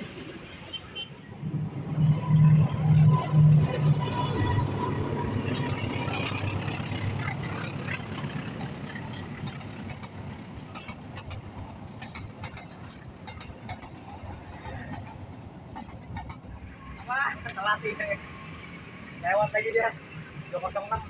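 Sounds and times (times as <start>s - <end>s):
passenger train rumbling: 0.0s - 21.0s
road traffic: 0.0s - 21.0s
wheels clicking over rail joints: 3.0s - 21.0s.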